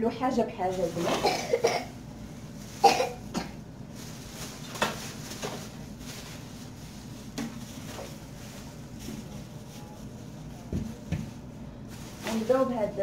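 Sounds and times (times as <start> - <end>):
plastic bags and boxes handled: 0.2 - 13.0.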